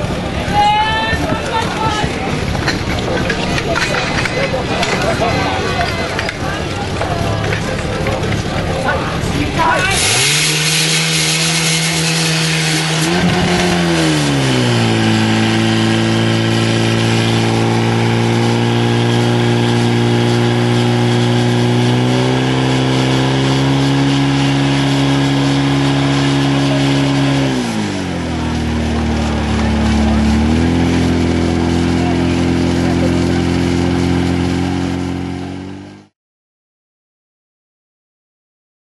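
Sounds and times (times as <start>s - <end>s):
fire pump engine running: 0.0s - 36.1s.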